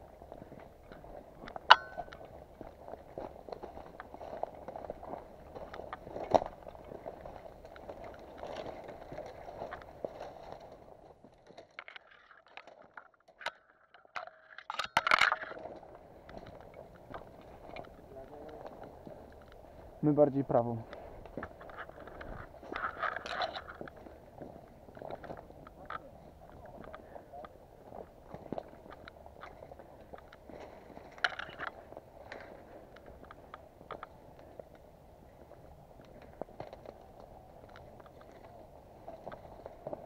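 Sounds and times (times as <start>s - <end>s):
footsteps through dry undergrowth: 0.0s - 13.0s, 15.5s - 40.0s.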